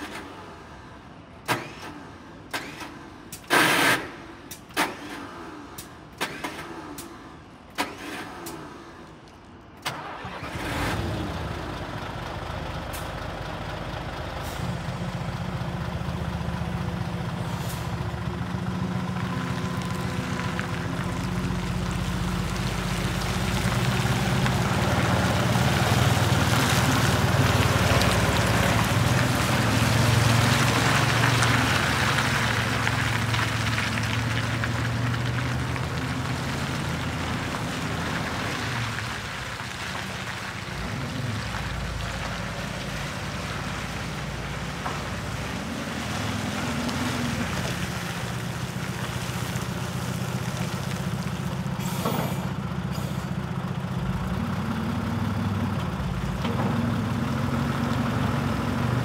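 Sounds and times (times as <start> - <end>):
truck diesel engine running: 9.9 - 59.0.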